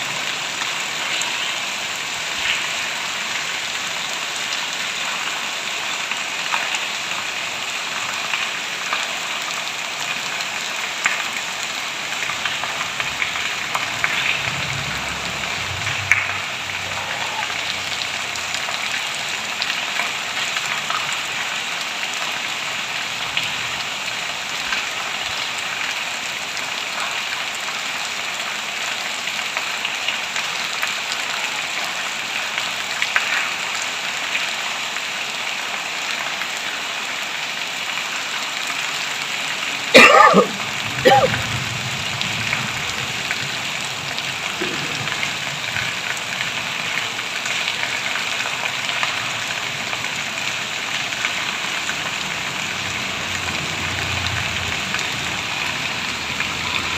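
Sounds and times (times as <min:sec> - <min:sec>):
heavy rain: 0:00.0 - 0:56.9
raindrops ticking on surfaces: 0:00.0 - 0:56.9.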